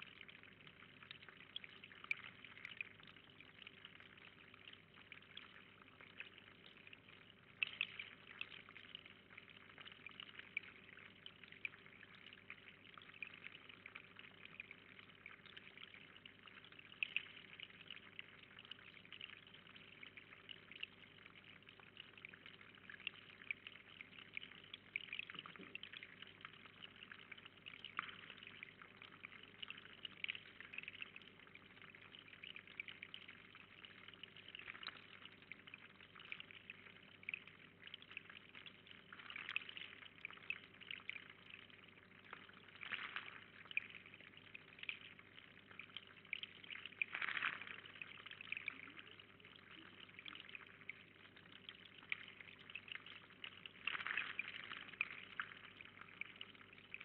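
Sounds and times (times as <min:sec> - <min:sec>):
water trickling and dripping: 0:00.0 - 0:57.0.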